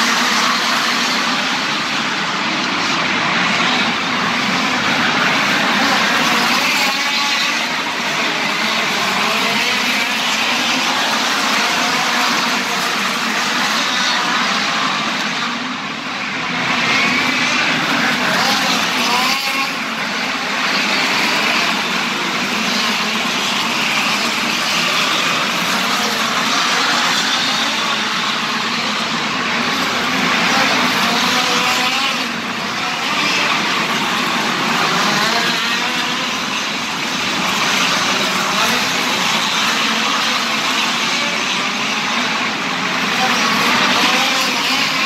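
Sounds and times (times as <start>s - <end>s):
race car engines racing: 0.0s - 45.0s.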